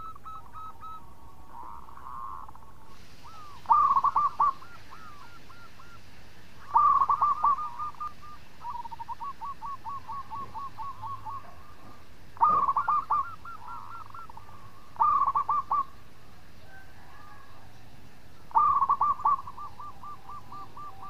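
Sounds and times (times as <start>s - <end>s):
dove cooing: 0.0s - 17.8s, 18.5s - 21.0s.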